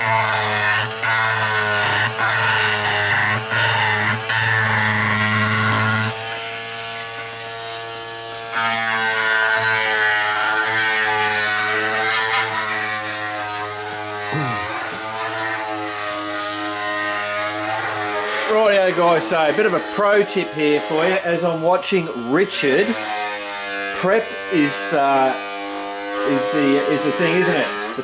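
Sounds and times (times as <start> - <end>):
small power tool motor buzzing: 0.0 - 28.0.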